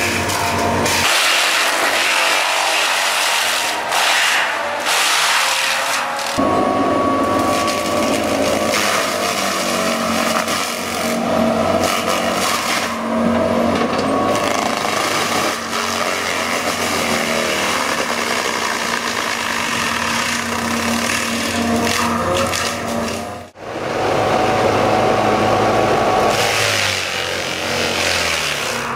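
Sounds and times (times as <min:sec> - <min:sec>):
heavy equipment engine running: 0:00.0 - 0:28.9
wavering engine whine: 0:00.0 - 0:28.9.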